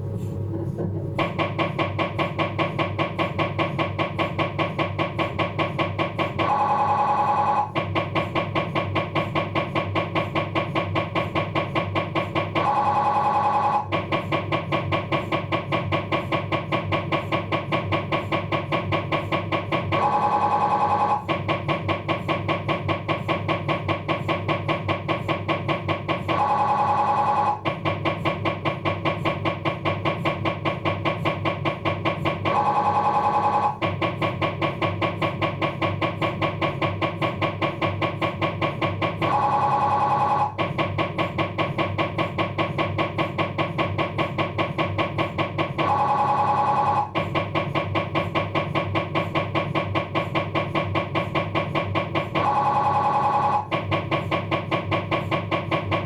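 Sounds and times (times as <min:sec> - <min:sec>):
mri scanner buzzing pulses: 0:00.0 - 0:56.0.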